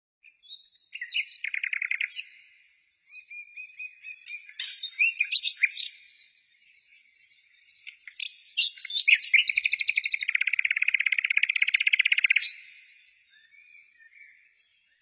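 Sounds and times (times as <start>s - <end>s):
birds singing: 0.2s - 15.0s.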